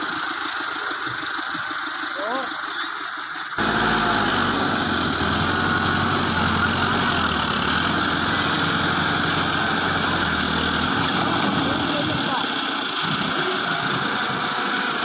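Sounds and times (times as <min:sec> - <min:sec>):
diesel engine droning at low revs: 0:00.0 - 0:15.0.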